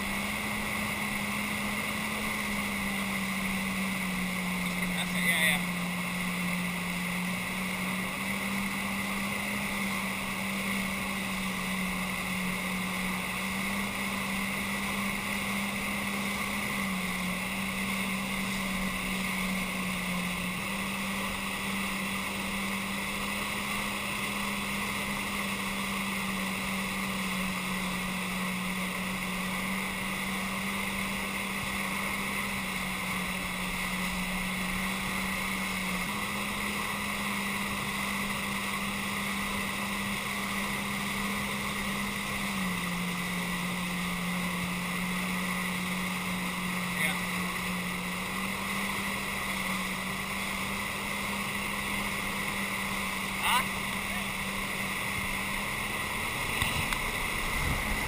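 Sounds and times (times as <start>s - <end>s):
jet ski engine running: 0.0s - 58.0s
water churning in wake: 0.0s - 58.0s.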